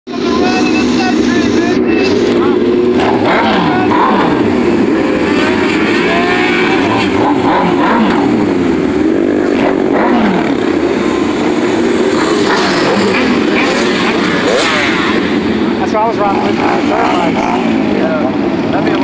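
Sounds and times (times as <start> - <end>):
motorcycle engines revving: 0.1 - 19.0.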